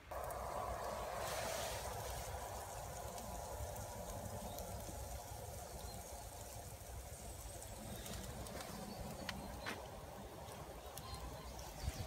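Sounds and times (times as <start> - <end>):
campfire crackling: 0.0 - 12.0
wind rumbling on microphone: 0.0 - 12.0.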